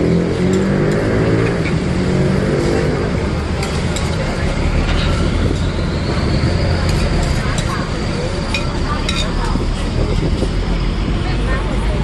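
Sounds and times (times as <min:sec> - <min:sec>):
low rumble of traffic: 0:00.0 - 0:12.0
vehicle engine running close by: 0:00.0 - 0:12.0.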